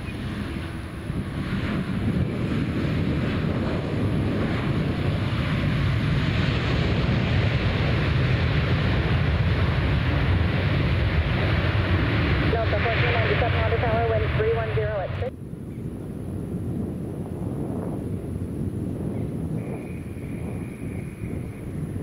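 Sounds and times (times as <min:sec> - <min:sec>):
jet engines at takeoff thrust: 0:00.0 - 0:22.0
wind buffeting microphone: 0:00.0 - 0:22.0.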